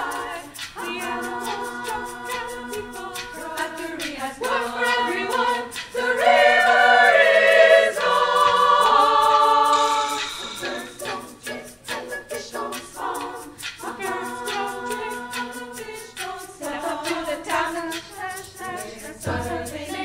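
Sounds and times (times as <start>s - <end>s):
women's choir singing: 0.0s - 20.0s.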